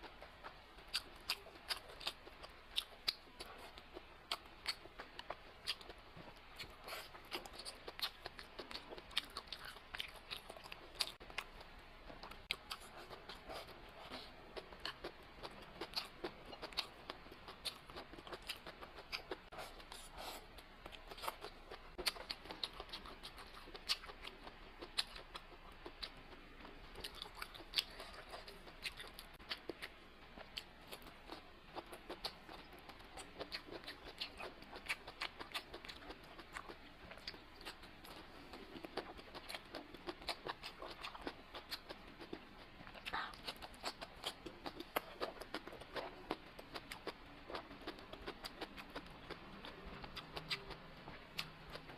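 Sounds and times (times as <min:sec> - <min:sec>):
person chewing crunchy food: 0:00.0 - 0:51.9.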